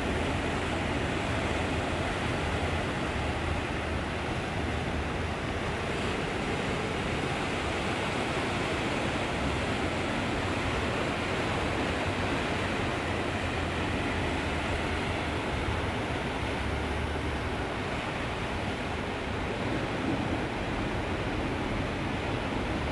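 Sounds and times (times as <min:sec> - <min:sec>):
ocean surf breaking on rocks: 0:00.0 - 0:22.9.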